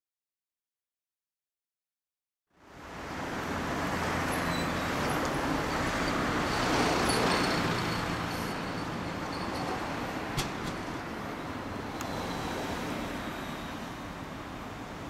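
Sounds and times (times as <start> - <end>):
road traffic noise: 2.5 - 15.0.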